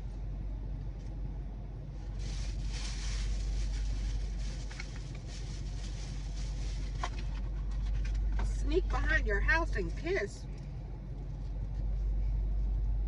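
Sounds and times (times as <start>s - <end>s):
car idling hum: 0.0s - 13.0s.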